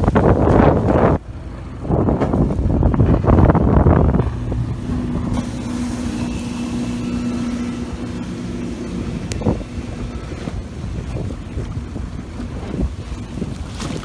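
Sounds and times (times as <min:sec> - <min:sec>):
motorboat engine droning: 0:00.0 - 0:14.0
wind and water noise: 0:00.0 - 0:14.0
wind buffeting on microphone: 0:00.0 - 0:14.0.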